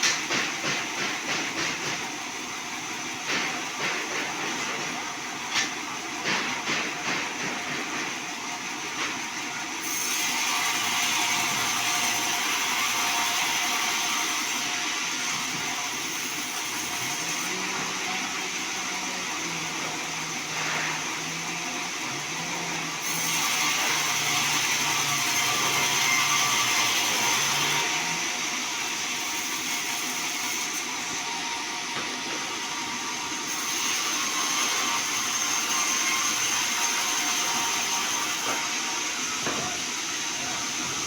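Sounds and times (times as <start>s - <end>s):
band sawmill cutting log: 0.0s - 41.0s.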